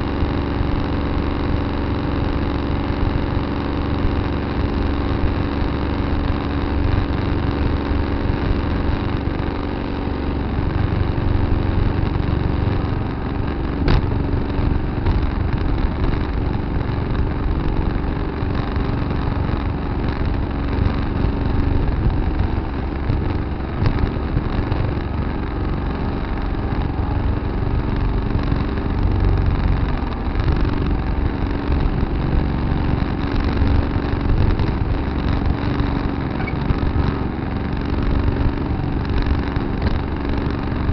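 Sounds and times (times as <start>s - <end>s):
tractor engine rumbling: 0.0s - 40.9s.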